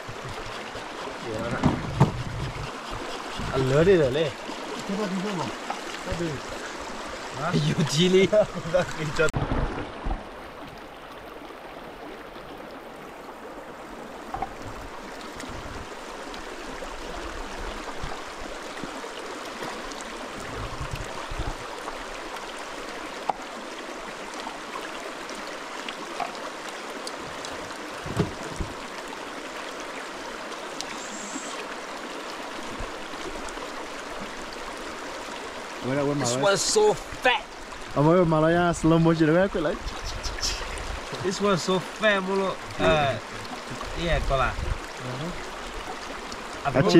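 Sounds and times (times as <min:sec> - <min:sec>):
stream running over stones: 0:00.0 - 0:46.9.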